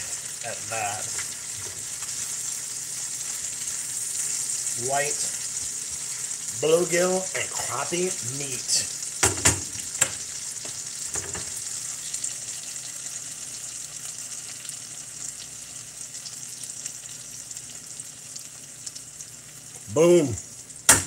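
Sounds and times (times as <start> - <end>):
fish sizzling in a pan: 0.0 - 21.0.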